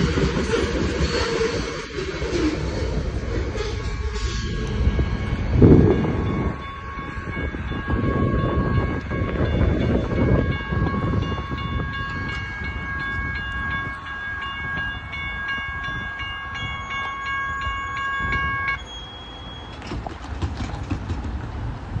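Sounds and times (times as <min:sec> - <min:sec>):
railroad crossing bells: 0:00.0 - 0:20.0
freight train rumbling past: 0:00.0 - 0:22.0.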